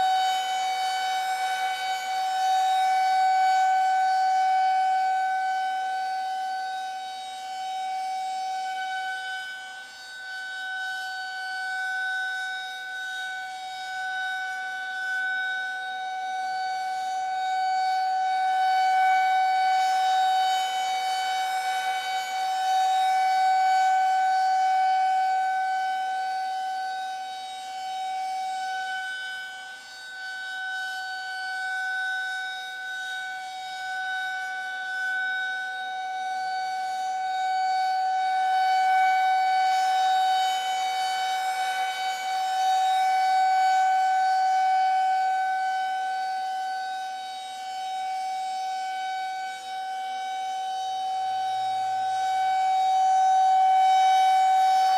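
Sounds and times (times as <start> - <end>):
air-raid siren: 0.0 - 54.9.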